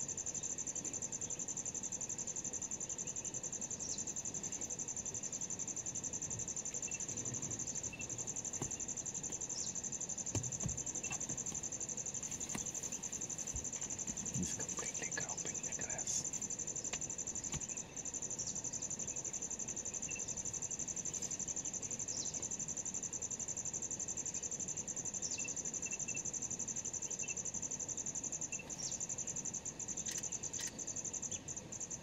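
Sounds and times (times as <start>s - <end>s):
high-pitched insect trill: 0.0s - 32.0s.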